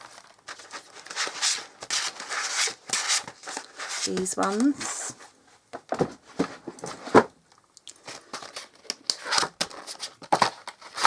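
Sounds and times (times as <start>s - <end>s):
crinkling and rustling: 0.0s - 11.0s.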